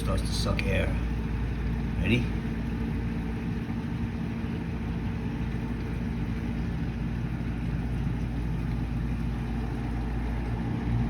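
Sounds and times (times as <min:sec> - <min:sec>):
dishwasher drain pump humming: 0:00.0 - 0:11.0.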